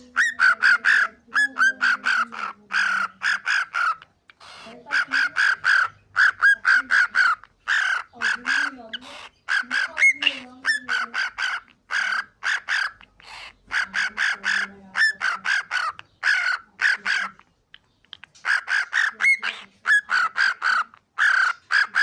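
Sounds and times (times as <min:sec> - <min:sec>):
cockatiel harsh calls: 0:00.0 - 0:17.5, 0:18.1 - 0:22.0.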